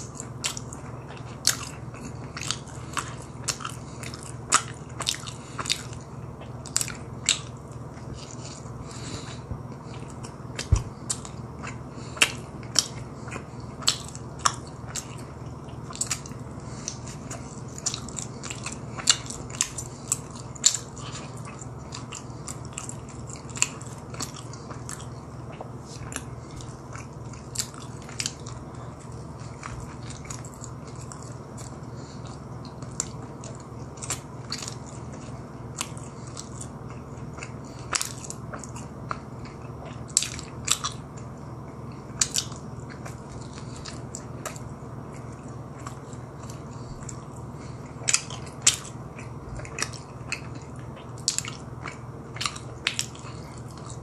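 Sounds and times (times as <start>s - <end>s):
person chewing with wet smacks: 0.0s - 54.0s.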